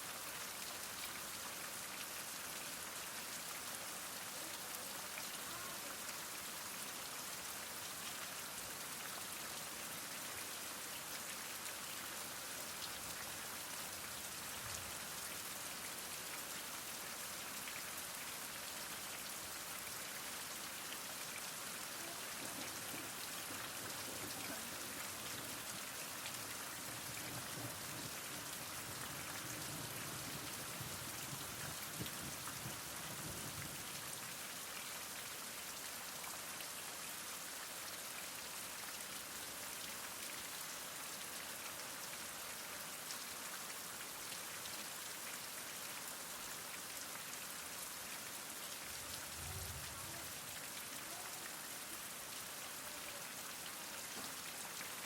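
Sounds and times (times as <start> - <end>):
heavy rain falling: 0.0 - 34.8, 44.6 - 55.0.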